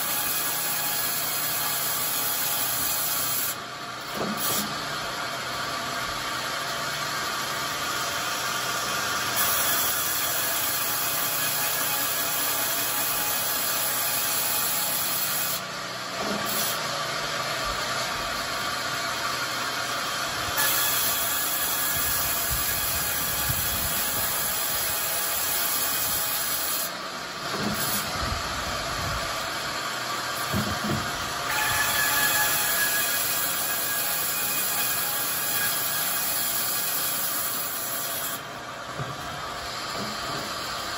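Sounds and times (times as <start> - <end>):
bandsaw mill sawing wood: 0.0 - 40.9.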